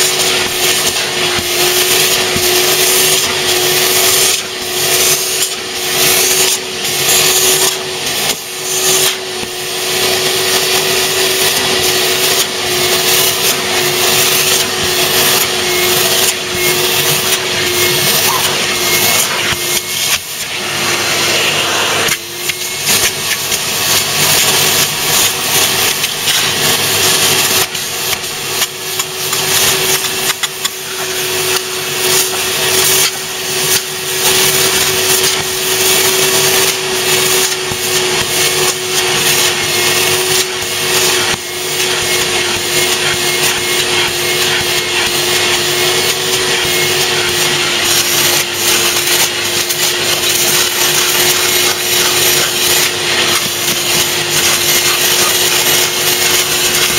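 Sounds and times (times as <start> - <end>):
vacuum motor whining: 0.0 - 56.9
vacuum nozzle sucking on fabric: 0.0 - 56.9.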